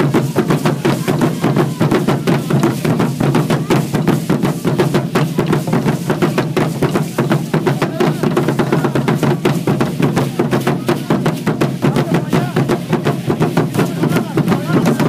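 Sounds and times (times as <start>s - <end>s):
fast even drumming: 0.0s - 15.0s.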